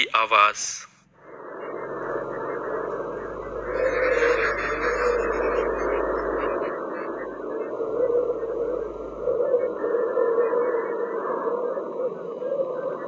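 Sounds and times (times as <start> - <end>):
hissing drone: 1.1 - 13.0
low hum: 1.1 - 13.0.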